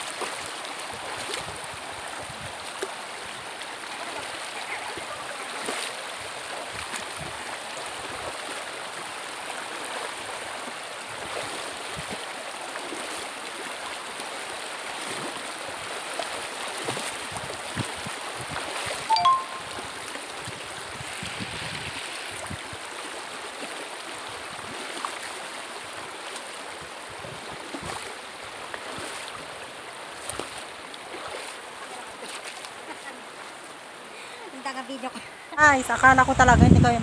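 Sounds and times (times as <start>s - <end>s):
person wading through water: 0.0s - 34.7s
river rushing over stones: 0.0s - 36.3s.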